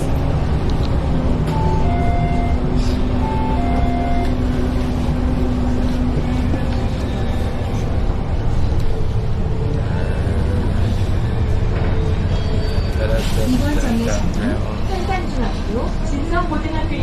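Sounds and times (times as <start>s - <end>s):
transit vehicle low rumble: 0.0s - 17.0s.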